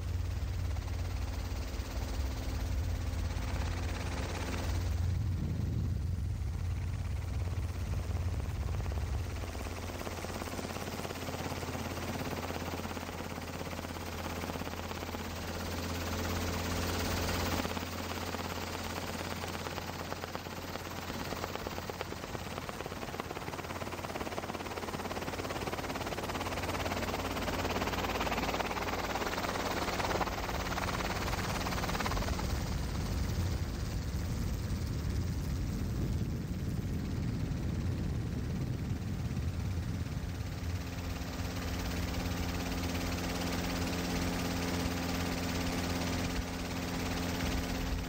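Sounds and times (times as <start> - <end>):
helicopter rotor chop: 0.0 - 48.0.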